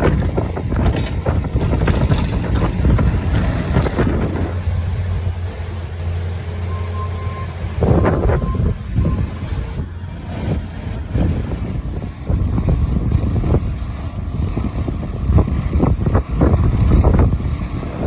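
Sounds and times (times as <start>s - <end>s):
wind buffeting microphone: 0.0s - 5.7s, 7.3s - 18.0s.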